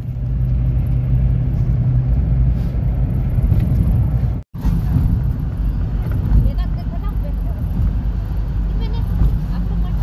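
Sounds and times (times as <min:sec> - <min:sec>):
vehicle engine and tyres rumble: 0:00.0 - 0:10.0.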